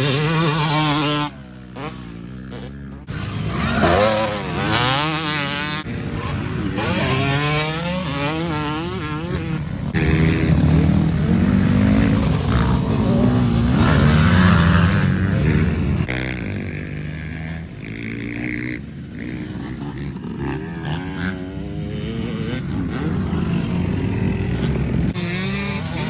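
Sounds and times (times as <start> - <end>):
dirt bike engine accelerating: 0.0 - 26.0.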